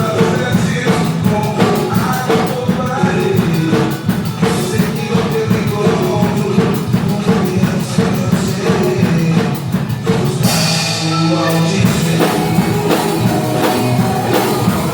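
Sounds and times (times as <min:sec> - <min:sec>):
drum kit beat: 0:00.0 - 0:14.9
live band playing gospel song: 0:00.0 - 0:14.9.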